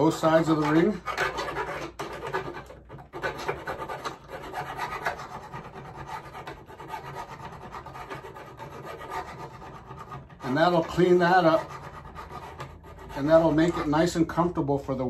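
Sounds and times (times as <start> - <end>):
hand file rasping on metal: 0.0 - 14.6.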